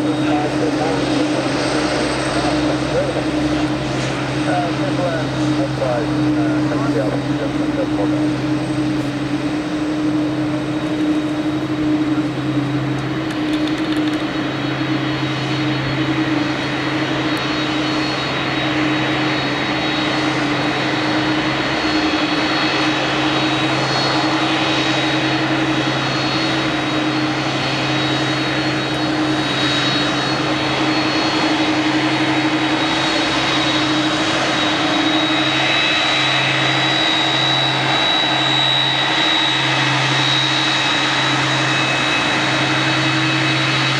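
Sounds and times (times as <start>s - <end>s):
jet engines idling with whine: 0.0s - 43.9s.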